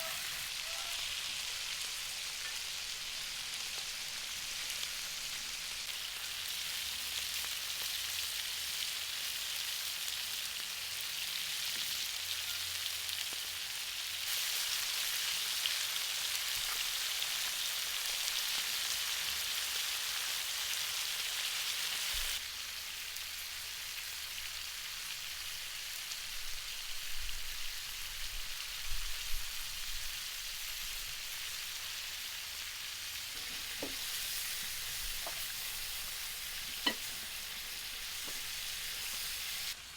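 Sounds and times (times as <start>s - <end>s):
food sizzling in hot fat: 0.0s - 39.9s.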